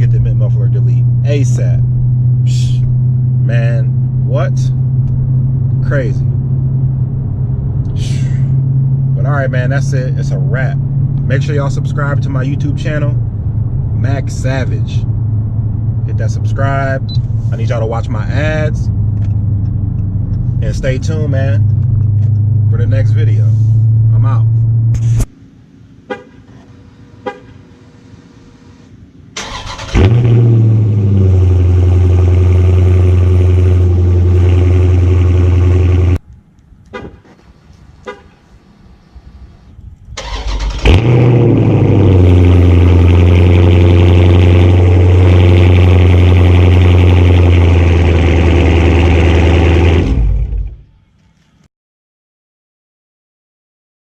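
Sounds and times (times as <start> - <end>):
car engine starting and idling: 0.0 - 25.7, 26.5 - 36.2, 39.8 - 51.0.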